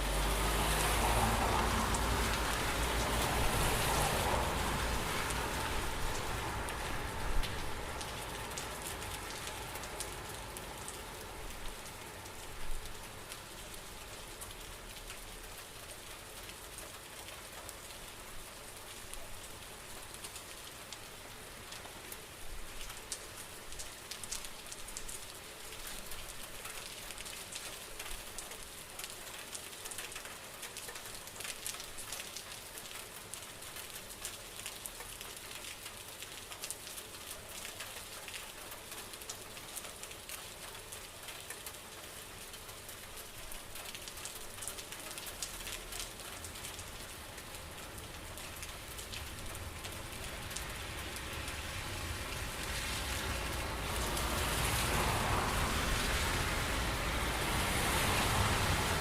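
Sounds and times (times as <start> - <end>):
raindrops hitting a surface: 0.0 - 59.0
steady rain hissing: 0.0 - 59.0.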